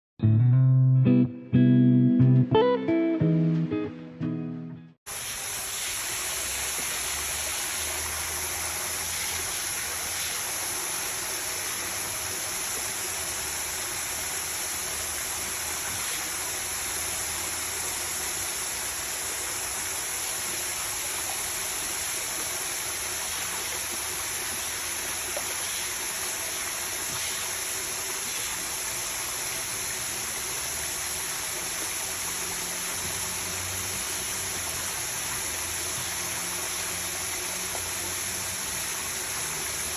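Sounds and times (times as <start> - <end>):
water running: 5.1 - 39.9.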